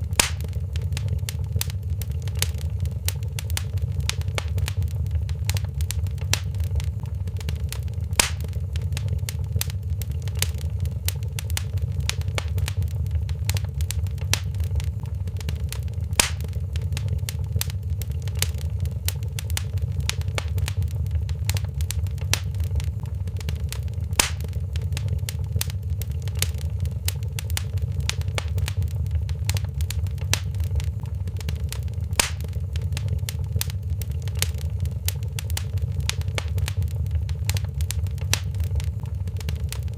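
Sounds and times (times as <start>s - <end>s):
sharp pop of fire: 0.0s - 18.6s, 19.2s - 39.9s
fireplace fire crackling: 0.0s - 39.9s.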